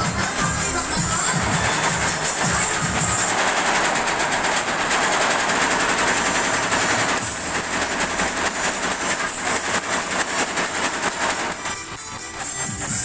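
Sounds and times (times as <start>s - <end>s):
embroidery machine stitching clatter: 0.0s - 13.0s.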